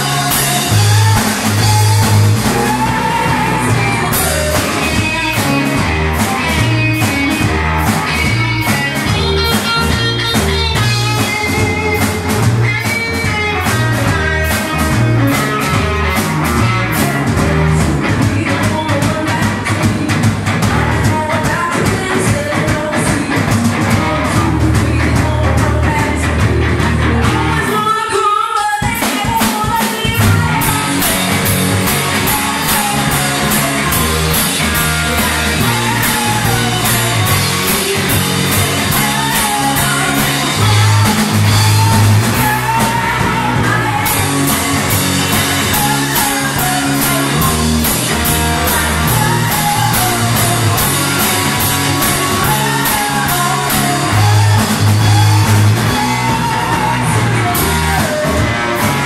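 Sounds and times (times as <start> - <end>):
woman singing into a microphone: 0.0 - 5.8, 16.9 - 58.6
bass guitar: 0.0 - 28.2, 28.9 - 59.0
drum kit: 0.0 - 59.0
electric guitar: 0.0 - 59.0.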